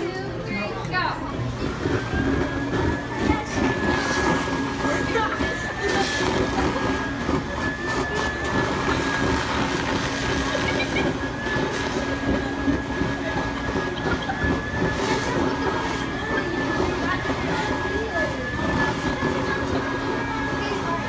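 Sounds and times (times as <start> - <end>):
high machine whine: 0.0 - 21.0
stuffing machine blower rushing: 1.4 - 21.0.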